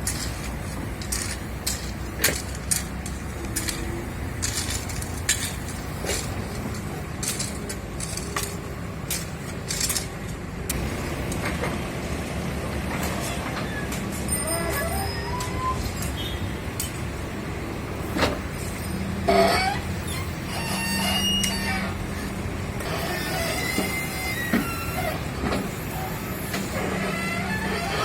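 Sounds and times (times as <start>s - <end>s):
road traffic rumbling: 0.0s - 28.0s.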